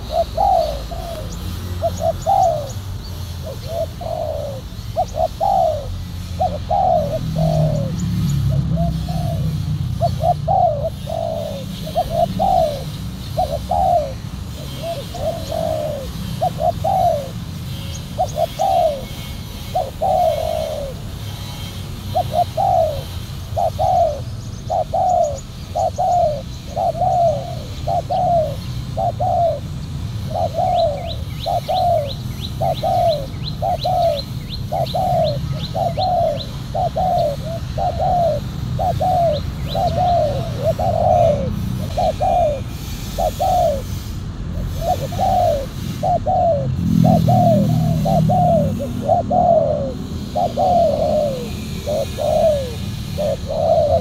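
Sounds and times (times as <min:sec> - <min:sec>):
doves cooing: 0:00.0 - 0:54.0
small bird chirping: 0:00.0 - 0:54.0.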